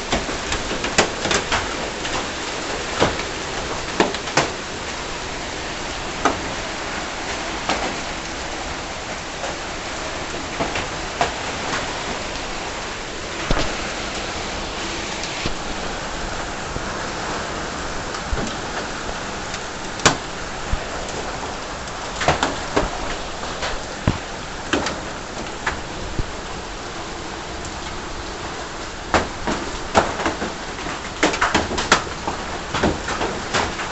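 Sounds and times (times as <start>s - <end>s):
heavy rain hiss: 0.0s - 33.9s.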